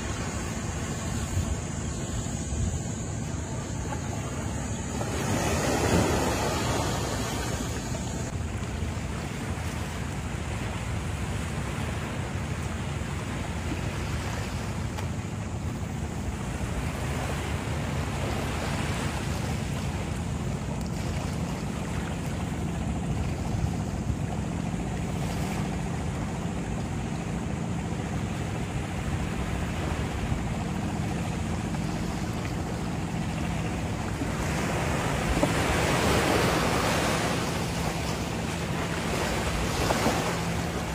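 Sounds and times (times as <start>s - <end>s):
small waves breaking on sand: 0.0s - 40.9s
steady low hum: 0.0s - 40.9s.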